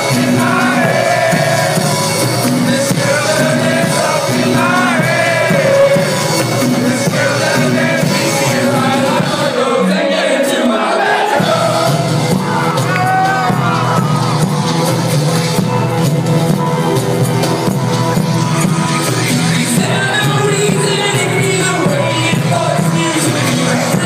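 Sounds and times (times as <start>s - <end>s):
person singing: 0.0s - 14.2s, 18.4s - 24.0s
live band playing: 0.0s - 24.0s.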